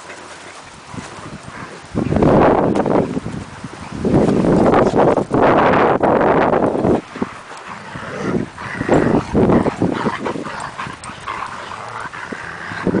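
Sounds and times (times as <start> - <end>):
dogs playing and vocalizing: 0.0 - 13.0.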